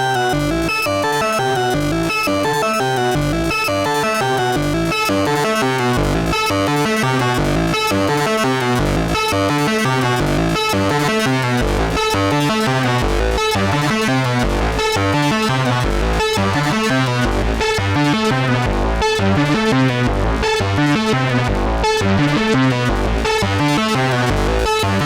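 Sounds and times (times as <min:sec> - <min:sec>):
modular synthesizer sequence: 0:00.0 - 0:25.0
synth bass line: 0:00.0 - 0:25.0.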